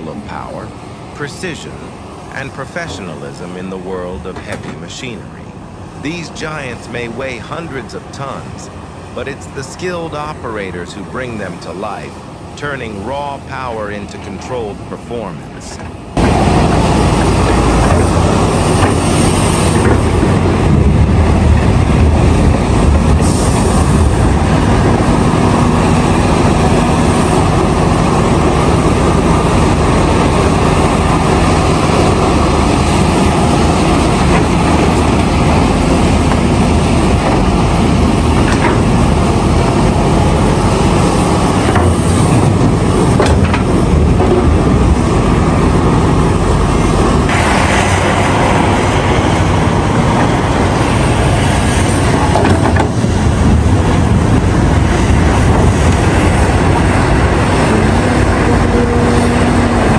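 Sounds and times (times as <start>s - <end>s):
excavator diesel engine: 0.0s - 59.9s
hydraulics labouring: 0.0s - 59.9s.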